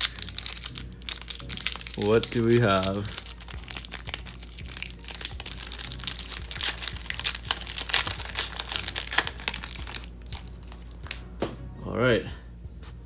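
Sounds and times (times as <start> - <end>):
foil wrapper crinkling: 0.0 - 11.2.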